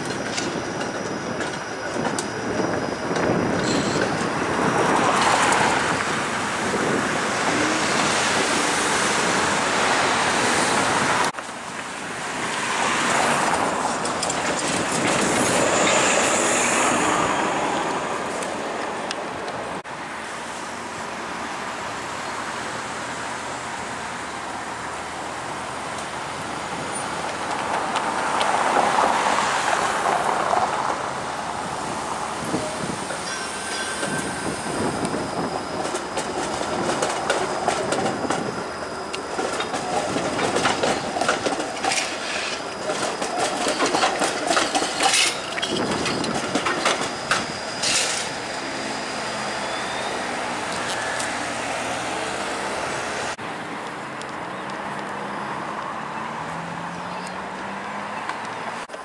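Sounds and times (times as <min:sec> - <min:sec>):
streetcars running: 0:00.0 - 0:59.0
passing car traffic: 0:04.2 - 0:59.0.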